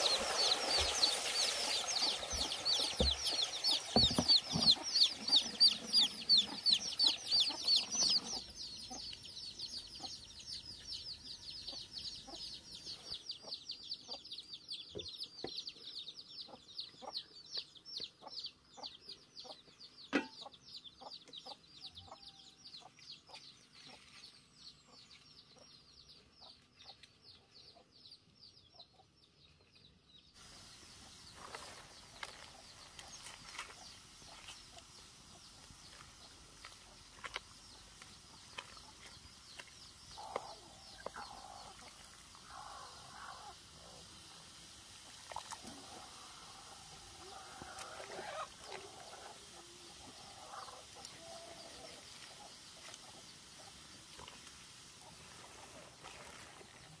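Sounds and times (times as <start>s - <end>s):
chicks peeping: 0.0s - 44.3s, 45.7s - 56.0s.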